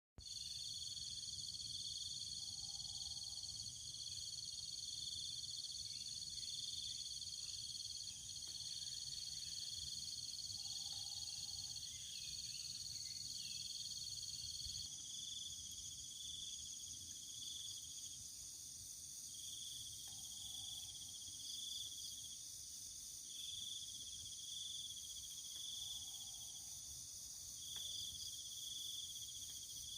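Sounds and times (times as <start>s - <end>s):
insects calling: 0.2s - 29.9s.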